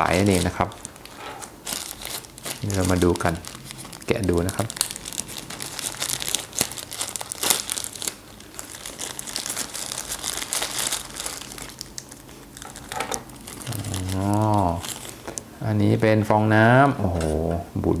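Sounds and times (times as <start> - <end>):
wrapping paper crinkling: 0.0 - 15.4.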